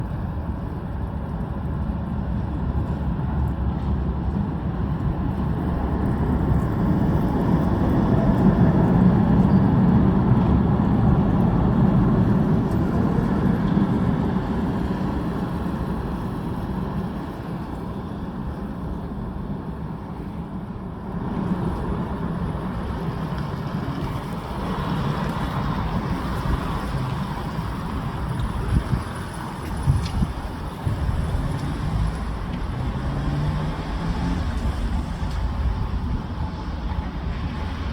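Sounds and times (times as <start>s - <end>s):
tram rumbling: 0.0s - 37.9s.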